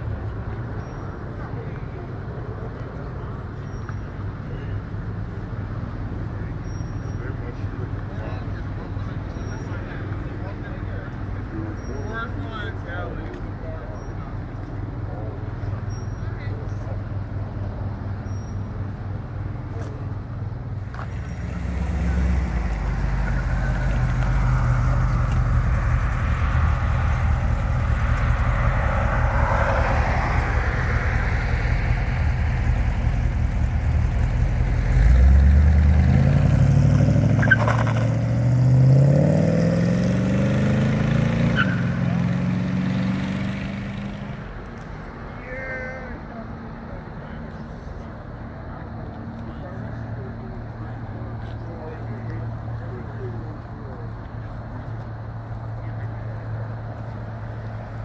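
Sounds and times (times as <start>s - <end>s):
car engine rumbling and accelerating: 0.0s - 45.4s, 46.1s - 58.0s.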